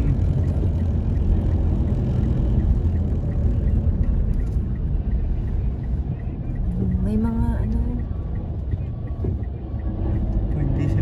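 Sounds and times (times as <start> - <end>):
car engine and tyres rumbling: 0.0 - 11.0
faint regular ticking: 0.0 - 11.0.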